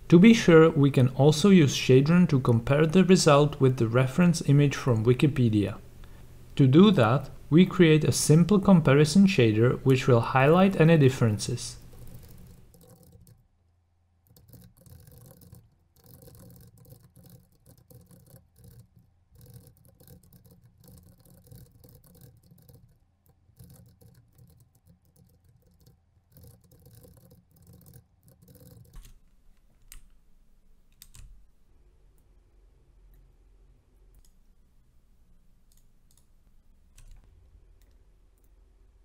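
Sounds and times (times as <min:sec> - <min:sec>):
faint keyboard typing: 0:00.0 - 0:13.4, 0:14.2 - 0:31.6, 0:34.0 - 0:38.6.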